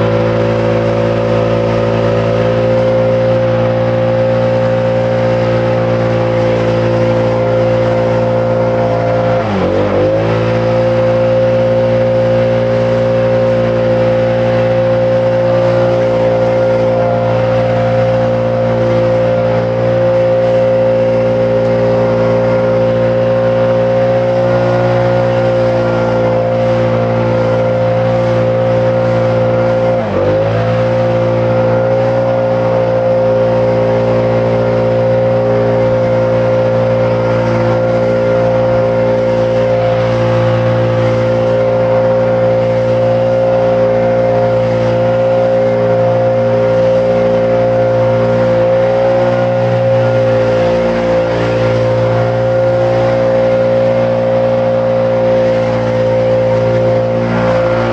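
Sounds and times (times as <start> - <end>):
small engine whining: 0.0 - 57.9.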